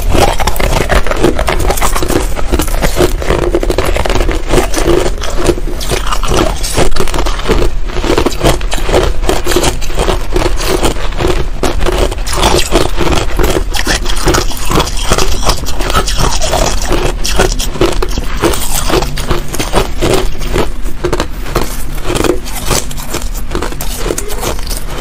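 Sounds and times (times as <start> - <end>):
crushed ice being chewed: 0.0 - 25.0.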